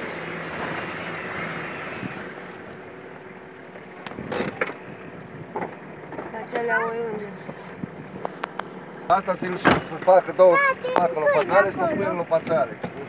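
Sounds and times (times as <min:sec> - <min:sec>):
engine drone inside vehicle: 0:00.0 - 0:13.0.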